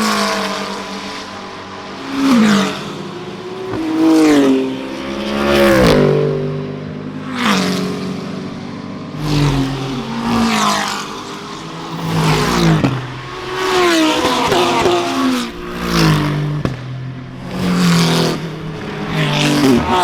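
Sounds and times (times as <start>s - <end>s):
race cars passing at speed: 0.0s - 20.0s.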